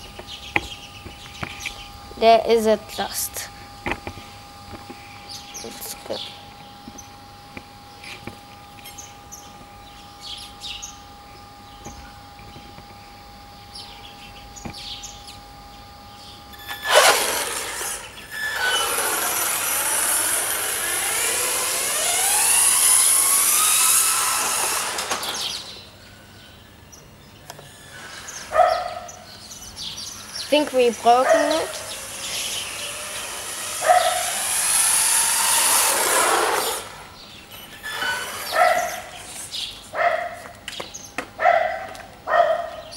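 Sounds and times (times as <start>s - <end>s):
birds chirping: 0.0s - 16.9s, 17.6s - 19.4s, 25.0s - 35.8s, 36.6s - 42.9s
electric motor whining: 0.0s - 41.3s.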